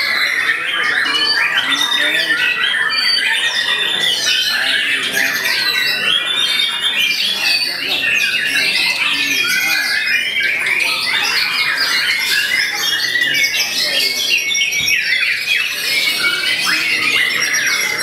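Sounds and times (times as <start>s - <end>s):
caged birds singing whistles and trills: 0.0s - 18.0s.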